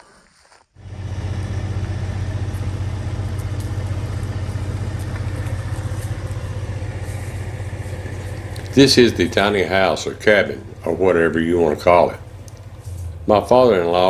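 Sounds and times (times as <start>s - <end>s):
diesel truck engine idling: 0.8s - 14.0s.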